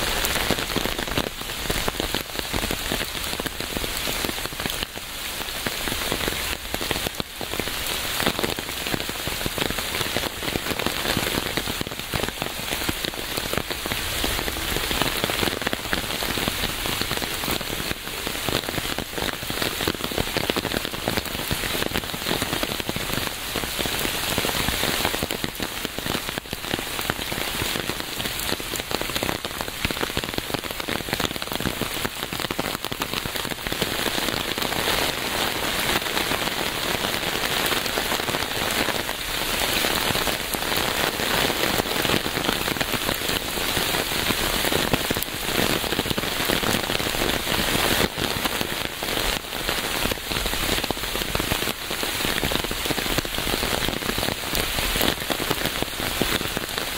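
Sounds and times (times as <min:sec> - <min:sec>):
rain on a hard surface: 0:00.0 - 0:56.9.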